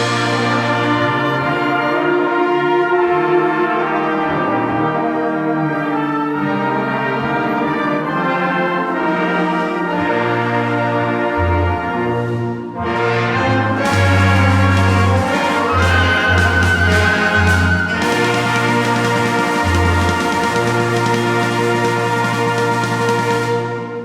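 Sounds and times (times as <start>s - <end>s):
wind band playing: 0.0s - 24.0s.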